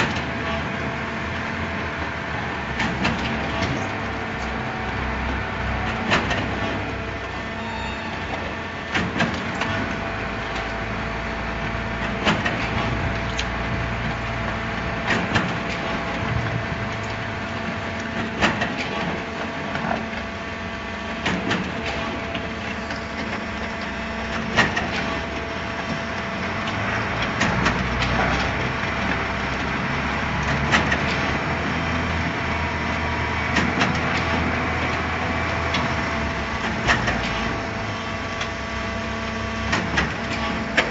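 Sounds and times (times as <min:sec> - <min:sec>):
concrete mixer pump hum: 0:00.0 - 0:40.9.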